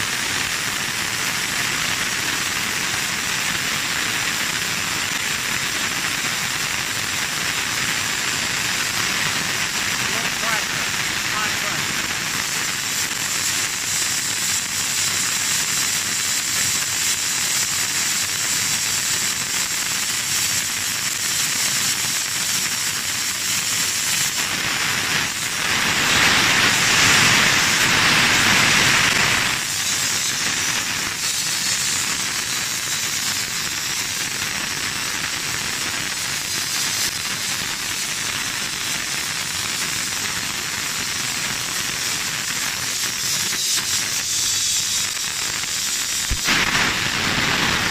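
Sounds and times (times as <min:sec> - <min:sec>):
refrigerant hissing from hose: 0:00.0 - 0:47.9.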